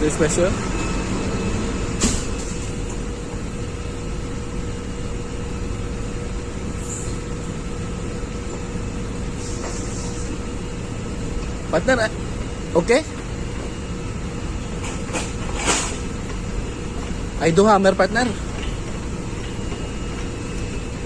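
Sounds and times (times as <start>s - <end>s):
engine-room machinery drone: 0.0s - 21.0s.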